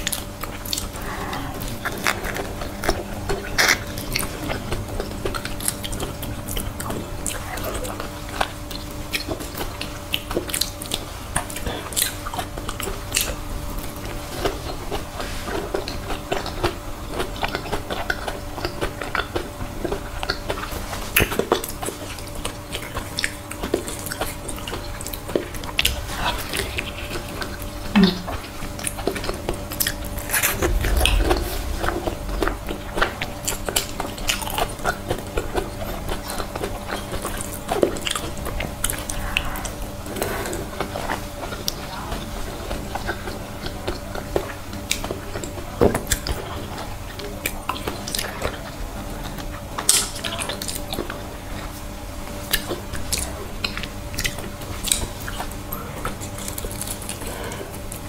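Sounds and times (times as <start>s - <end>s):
wet chewing and lip smacking: 0.0s - 51.7s, 52.3s - 58.0s
faint steady hum: 0.0s - 58.0s.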